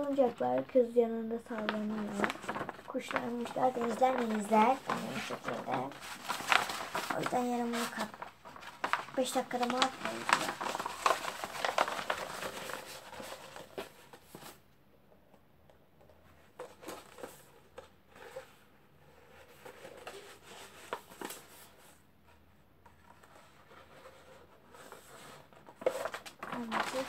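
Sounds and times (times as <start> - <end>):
paper rustling: 0.0 - 14.6, 16.4 - 22.0, 22.8 - 27.0.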